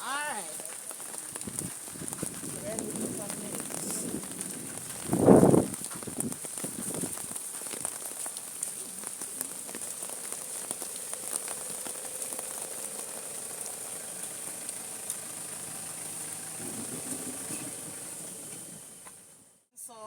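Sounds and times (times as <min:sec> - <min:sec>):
rain falling: 0:00.0 - 0:19.6.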